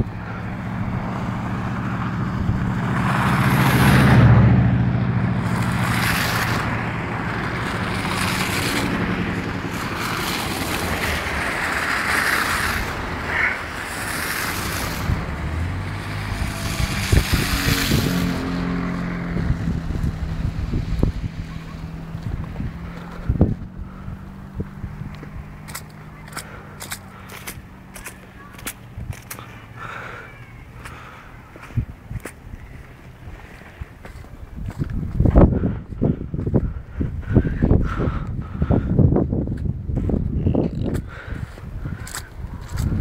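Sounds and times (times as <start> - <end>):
blizzard wind gusts: 0.0 - 25.7, 31.3 - 43.0
vehicle engine humming: 0.0 - 43.0.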